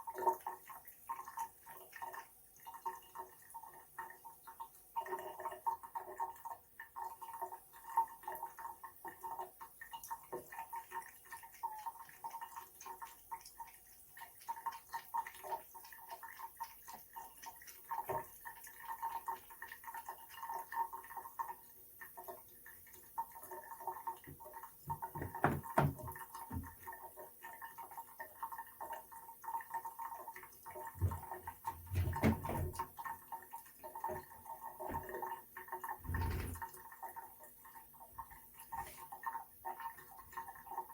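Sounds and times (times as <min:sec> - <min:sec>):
water dripping from a faucet: 0:00.0 - 0:40.9.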